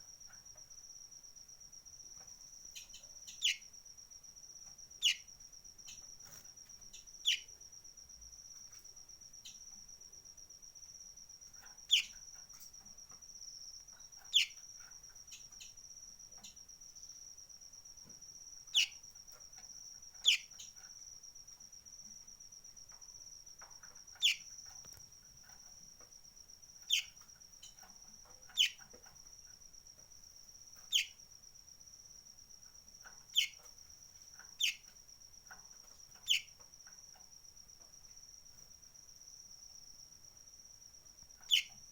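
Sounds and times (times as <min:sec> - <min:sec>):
high-pitched insect-like whine: 0:00.0 - 0:41.9.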